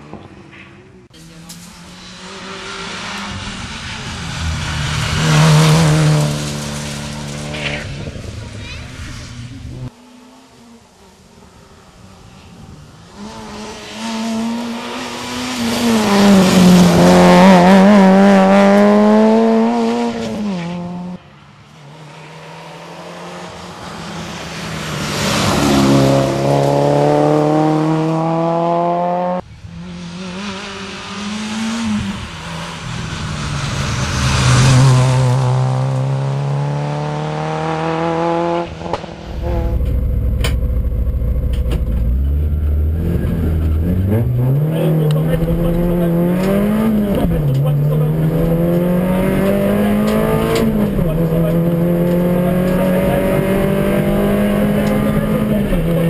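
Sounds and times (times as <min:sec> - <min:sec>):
rally car engine revving: 0:01.1 - 0:11.2, 0:13.0 - 0:21.2, 0:21.8 - 0:56.0.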